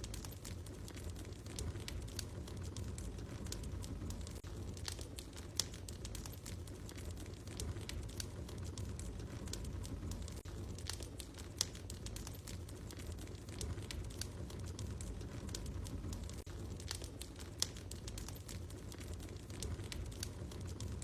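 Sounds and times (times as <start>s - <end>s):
low fire rumble: 0.0s - 21.0s
wood fire snapping and popping: 0.0s - 21.0s.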